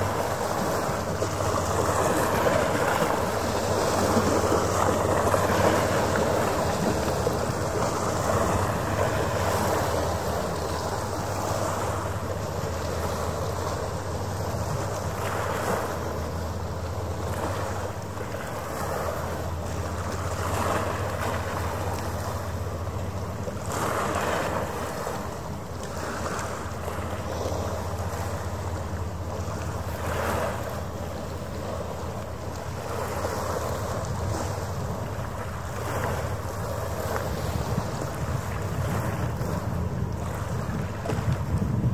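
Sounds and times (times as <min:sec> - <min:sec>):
steady low hum: 0:00.0 - 0:41.9
water washing against shore: 0:00.0 - 0:41.9.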